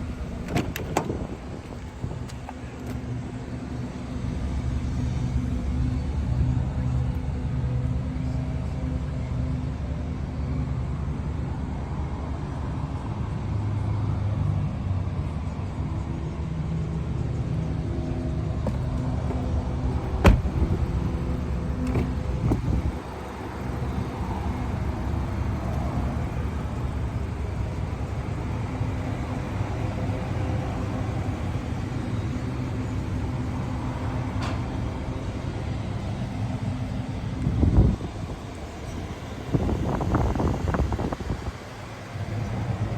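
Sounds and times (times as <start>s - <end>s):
car engine hum: 0.0s - 42.9s
road noise: 0.0s - 42.9s.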